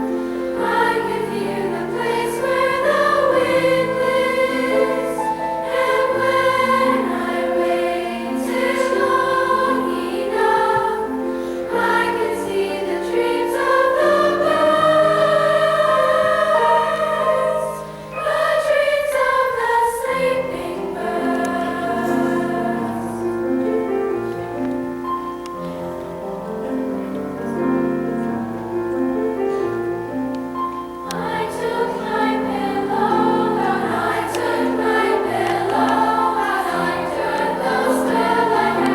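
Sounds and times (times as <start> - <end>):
girls' choir singing: 0.0 - 24.2, 30.9 - 38.9.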